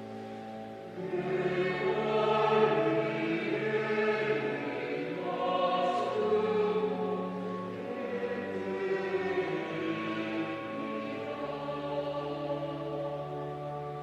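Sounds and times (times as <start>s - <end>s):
choir singing a hymn: 0.0s - 14.0s
organ chords: 0.0s - 14.0s.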